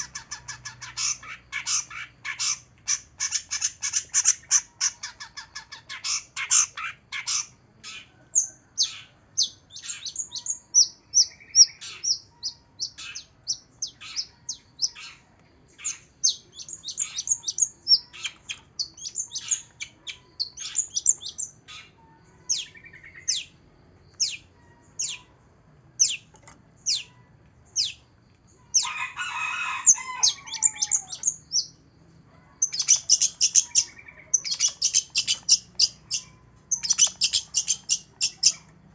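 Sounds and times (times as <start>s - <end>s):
bird chirping: 0.0s - 25.4s, 26.0s - 38.9s.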